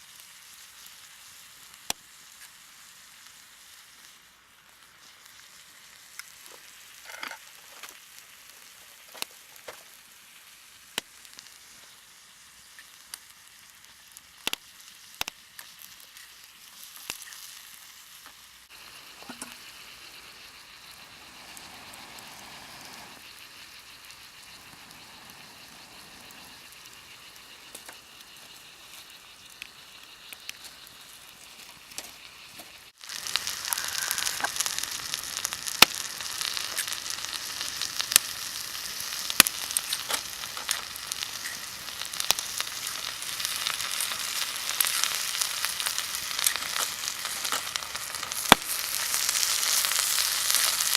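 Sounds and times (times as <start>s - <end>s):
crackles and pops: 0.0s - 50.9s
food sizzling in a pan: 0.0s - 50.9s.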